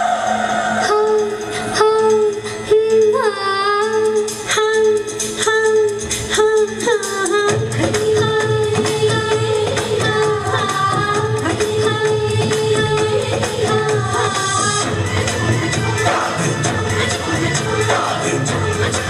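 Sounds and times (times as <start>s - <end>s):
dance music: 0.0s - 19.0s.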